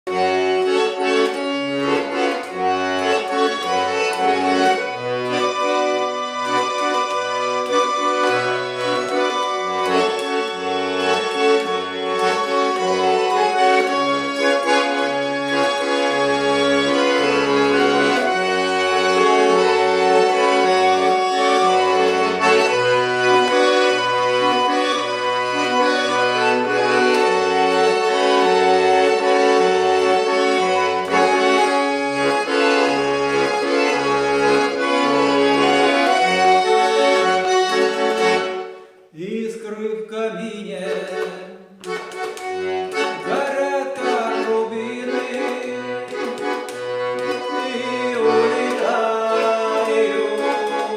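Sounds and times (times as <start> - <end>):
accordion melody with bass: 0.0 - 50.9.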